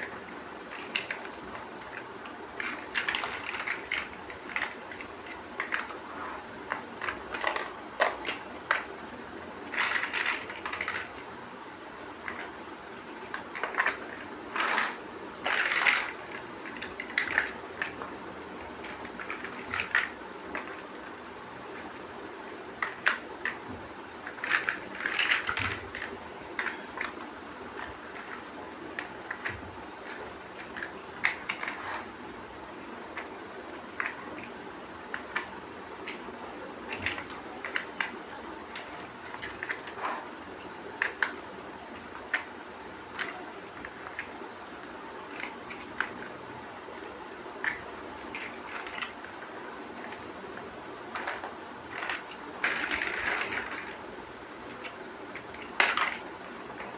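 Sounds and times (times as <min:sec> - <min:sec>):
plastic bricks clicking together: 0:00.0 - 0:06.0, 0:09.7 - 0:11.2, 0:13.2 - 0:21.2, 0:21.8 - 0:23.6, 0:24.2 - 0:31.8, 0:33.1 - 0:40.0, 0:40.6 - 0:42.5, 0:43.1 - 0:54.0, 0:54.7 - 0:56.9.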